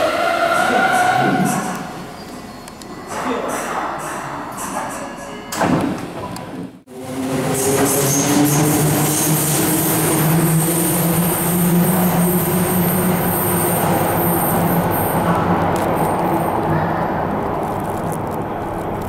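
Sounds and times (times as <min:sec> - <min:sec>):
rail and wheel noise: 0:00.0 - 0:19.0.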